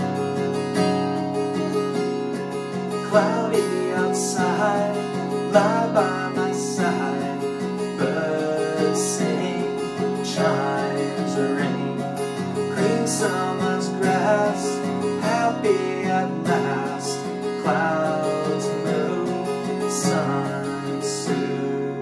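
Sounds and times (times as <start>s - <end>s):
acoustic guitar strumming chords: 0.0s - 22.0s
man singing folk song: 0.0s - 22.0s.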